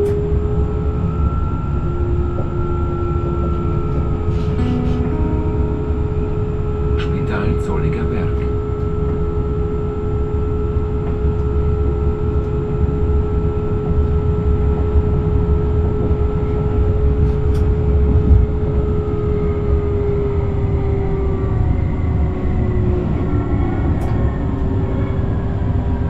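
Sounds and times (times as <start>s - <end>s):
train wheels rumbling on rails: 0.0s - 26.0s
train whine: 0.0s - 26.0s.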